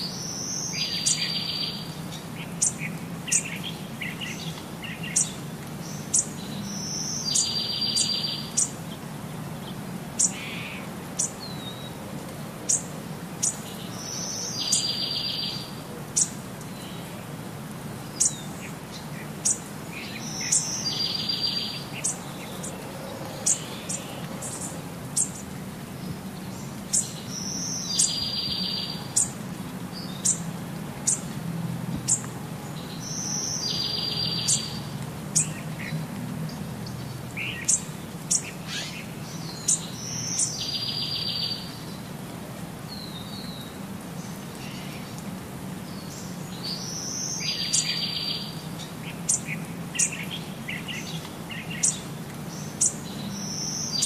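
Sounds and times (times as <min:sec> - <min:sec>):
birds chirping: 0:00.0 - 0:12.0, 0:12.6 - 0:17.3, 0:18.0 - 0:31.4, 0:32.0 - 0:42.2, 0:42.9 - 0:54.0.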